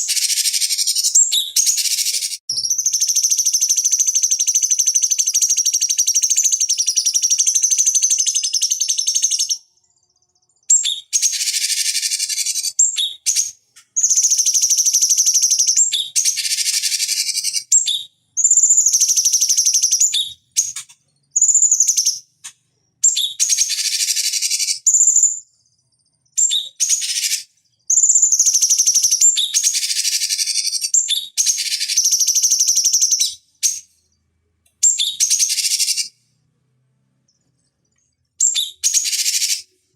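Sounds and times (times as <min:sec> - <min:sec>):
bird chattering song: 0:00.0 - 0:34.0, 0:34.8 - 0:36.2, 0:37.3 - 0:39.9.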